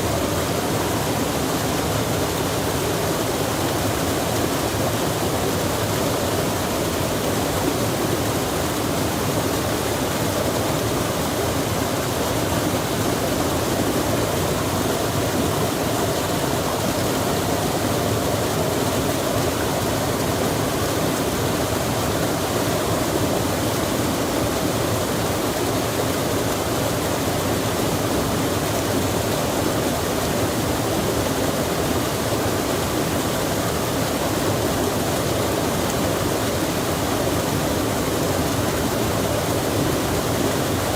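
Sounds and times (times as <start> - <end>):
rushing stream water: 0.0 - 40.9.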